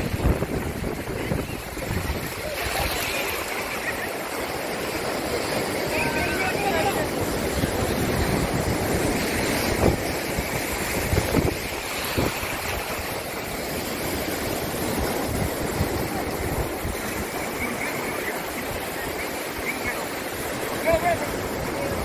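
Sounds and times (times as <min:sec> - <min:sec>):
small waves washing: 0:00.0 - 0:22.0
wind on microphone: 0:00.0 - 0:22.0.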